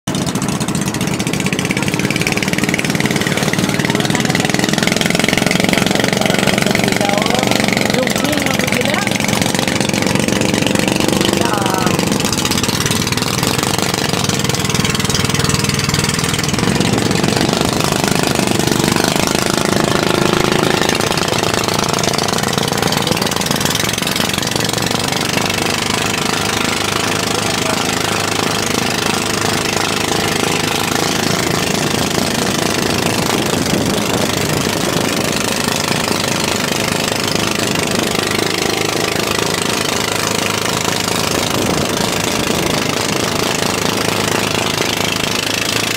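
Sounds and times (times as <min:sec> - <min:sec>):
boat engine running: 0:00.0 - 0:45.9
water and wind hiss: 0:01.3 - 0:45.9.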